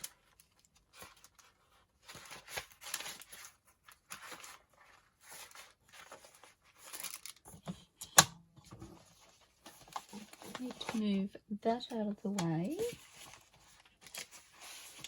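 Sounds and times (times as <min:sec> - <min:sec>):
paper sheets rustling: 0:00.0 - 0:07.6, 0:08.7 - 0:11.3, 0:11.9 - 0:15.0.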